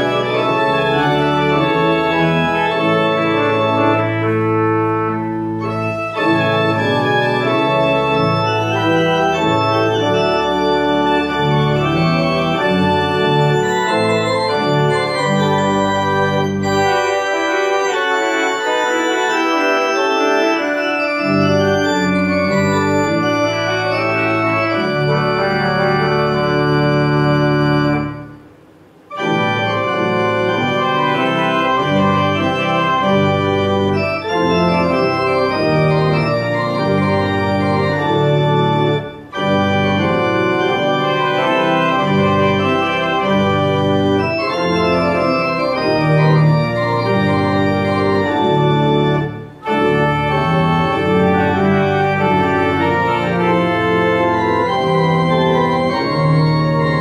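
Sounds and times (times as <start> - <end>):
church organ playing: 0.0 - 57.0.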